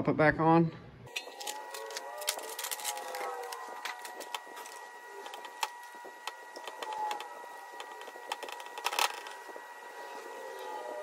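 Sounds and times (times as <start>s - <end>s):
faint high hum: 0.7s - 11.0s.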